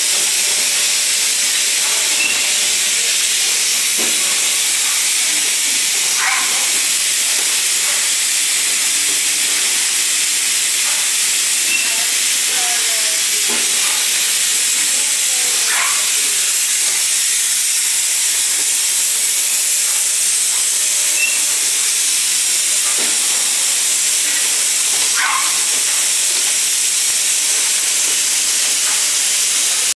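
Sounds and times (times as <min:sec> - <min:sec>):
thermoforming machine hissing: 0:00.0 - 0:29.9.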